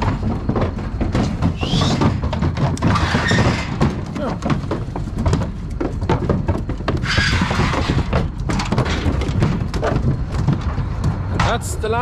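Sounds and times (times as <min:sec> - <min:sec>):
hooves knocking on trailer floor: 0:00.0 - 0:12.0.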